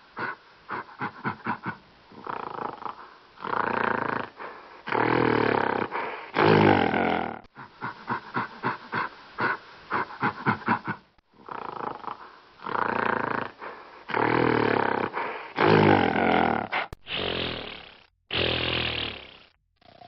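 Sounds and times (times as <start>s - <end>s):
gorilla grunting: 0.2s - 17.3s
gorilla growling: 0.2s - 20.0s.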